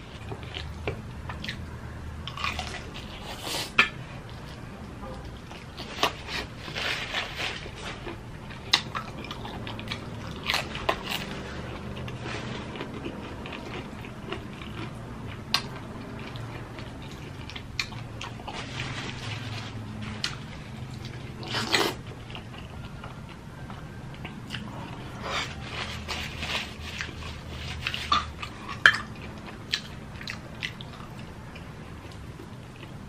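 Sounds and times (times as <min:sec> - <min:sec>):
close chewing: 0:00.0 - 0:33.0.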